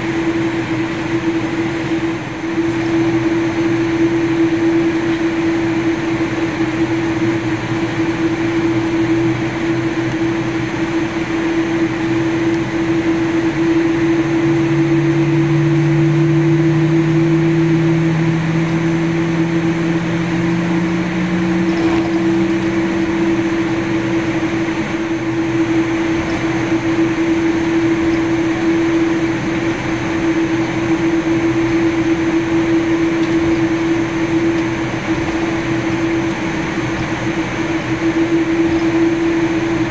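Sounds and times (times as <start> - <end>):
jet cabin rushing hum: 0.0 - 39.9.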